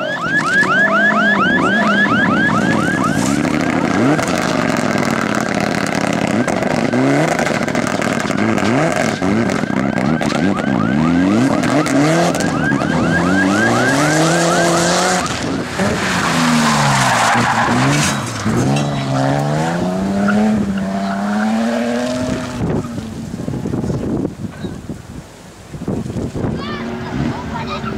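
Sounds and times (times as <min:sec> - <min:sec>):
rally car engines revving: 0:00.0 - 0:24.9, 0:26.2 - 0:27.9.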